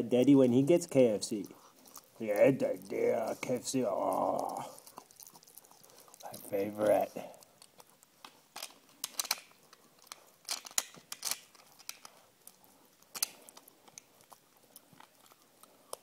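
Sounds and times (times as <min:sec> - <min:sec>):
dog gnawing a hard chew: 0:00.8 - 0:16.0.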